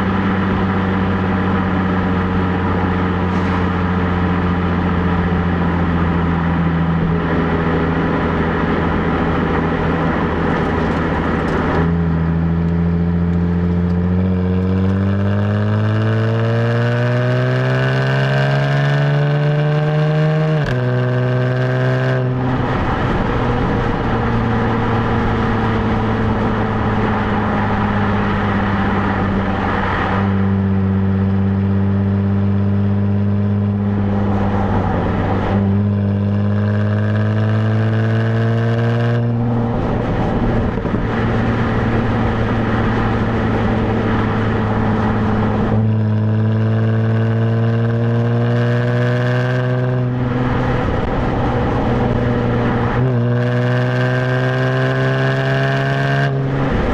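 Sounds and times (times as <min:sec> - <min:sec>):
car exhaust droning: 0:00.0 - 0:56.9.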